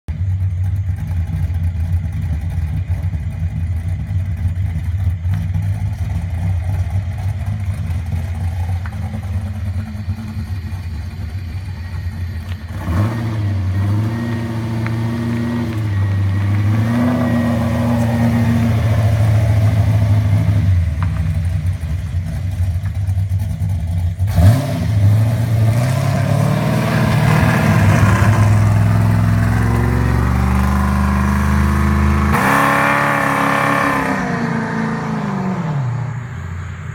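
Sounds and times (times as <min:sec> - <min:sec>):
misfiring car engine revving: 0:00.3 - 0:36.9.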